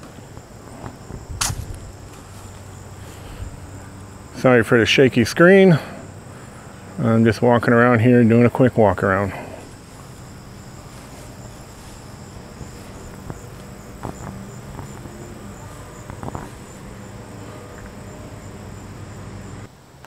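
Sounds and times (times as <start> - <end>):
insects chirping trill: 0.0 - 20.0.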